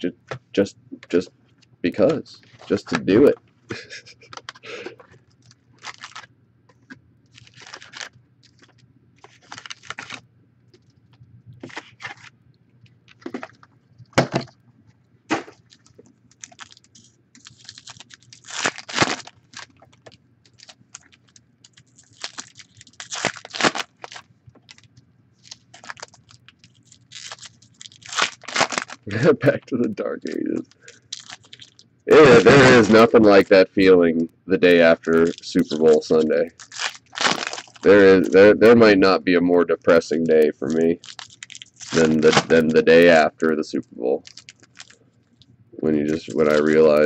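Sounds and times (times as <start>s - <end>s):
foil packs crinkling: 2.0s - 10.2s, 11.6s - 12.3s, 13.1s - 14.5s, 15.3s - 33.6s, 34.6s - 47.0s.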